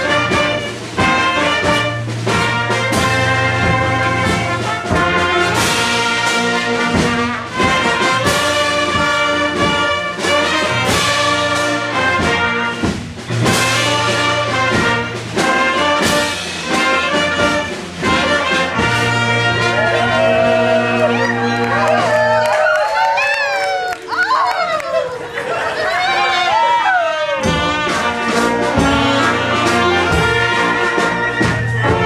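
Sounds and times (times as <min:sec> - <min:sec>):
brass band playing: 0:00.0 - 0:23.2, 0:25.5 - 0:32.0.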